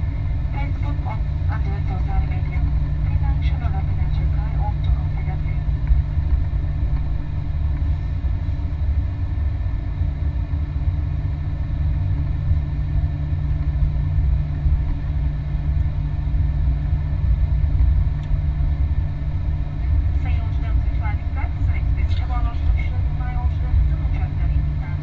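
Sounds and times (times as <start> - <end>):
aircraft engines idling: 0.0 - 25.0
steady hum: 0.0 - 25.0.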